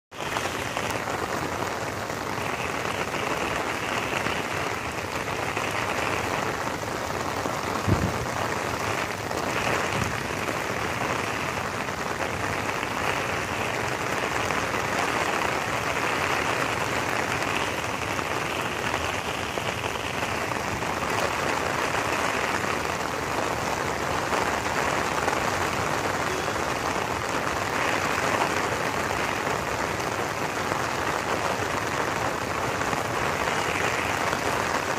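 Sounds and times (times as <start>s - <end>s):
heavy rain on stone paving: 0.1s - 34.9s.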